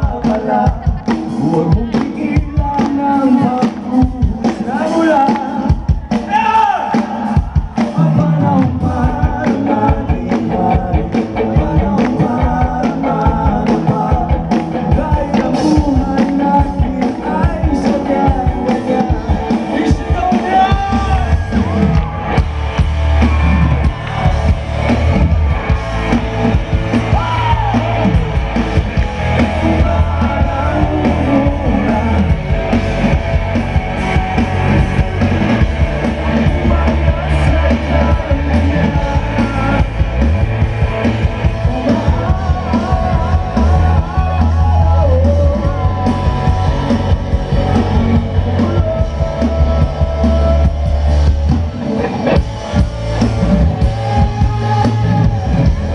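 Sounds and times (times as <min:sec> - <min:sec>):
man singing: 0:00.0 - 0:22.2, 0:26.5 - 0:52.5, 0:53.2 - 0:55.9
drums: 0:00.0 - 0:55.9
electric guitar: 0:00.0 - 0:55.9
heavy bass: 0:00.0 - 0:55.9.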